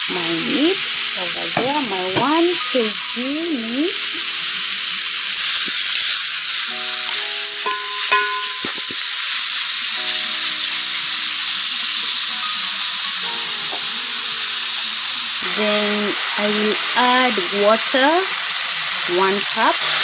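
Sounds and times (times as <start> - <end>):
pork sizzling in a hot pot: 0.0 - 20.0.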